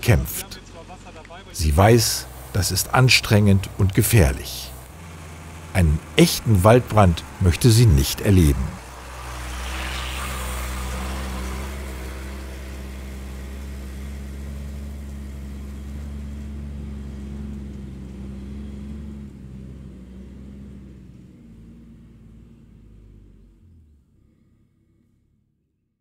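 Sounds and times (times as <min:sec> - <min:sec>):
fire engine driving off: 0:00.0 - 0:24.9.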